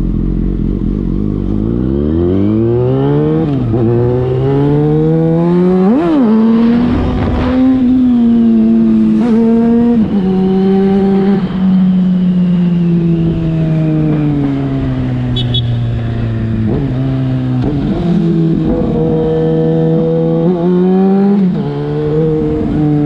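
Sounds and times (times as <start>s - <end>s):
motorcycle accelerating through gears: 0.0s - 23.0s.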